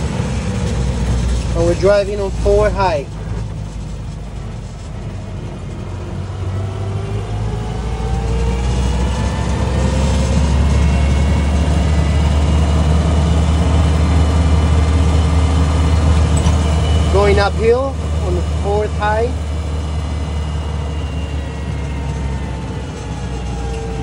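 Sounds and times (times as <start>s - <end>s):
drivetrain whine: 0.0s - 24.0s
engine drone inside cab: 0.0s - 24.0s.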